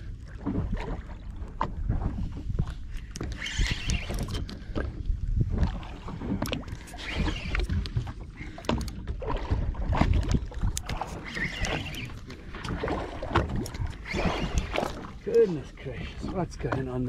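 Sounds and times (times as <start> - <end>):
water splashing against hull: 0.0 - 17.0
wind buffeting microphone: 0.0 - 17.0
knocks and clicks on boat: 0.2 - 17.0.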